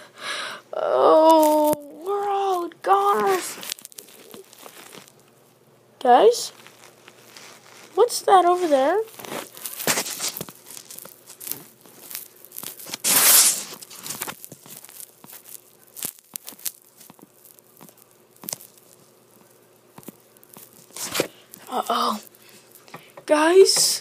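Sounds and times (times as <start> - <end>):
rustling against fabric: 1.4 - 5.2, 6.4 - 23.2.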